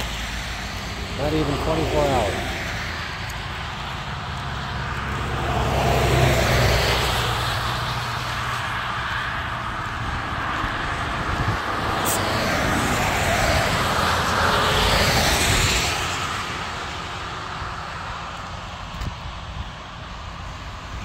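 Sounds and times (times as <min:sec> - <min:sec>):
car passing on wet road: 0:00.0 - 0:19.4.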